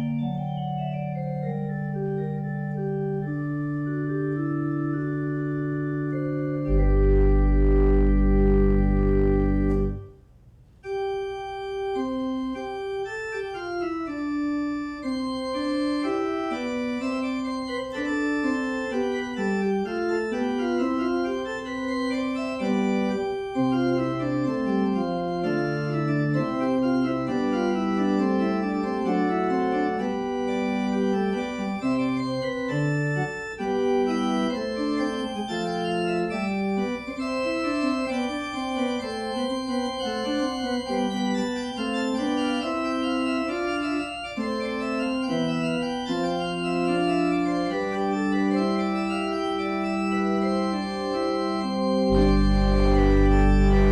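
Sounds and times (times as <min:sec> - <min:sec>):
slow organ music: 0:00.0 - 0:53.9.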